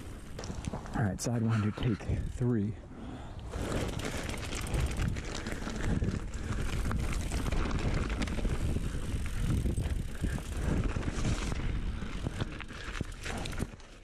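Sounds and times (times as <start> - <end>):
bike tyres rumbling on dirt: 0.0 - 1.6, 3.1 - 14.0
wind buffeting microphone: 0.0 - 13.8
bike clicking and rattling: 0.0 - 14.0.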